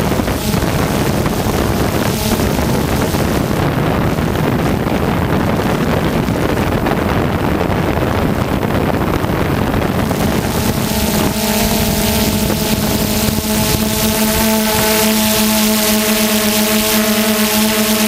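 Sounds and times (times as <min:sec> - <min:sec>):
drone propellers humming: 0:00.0 - 0:18.0
wind noise on microphone: 0:00.0 - 0:18.0.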